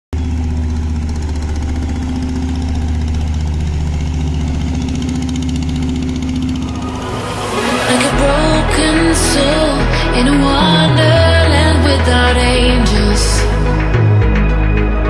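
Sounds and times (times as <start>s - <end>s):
engine idling: 0.1s - 14.4s.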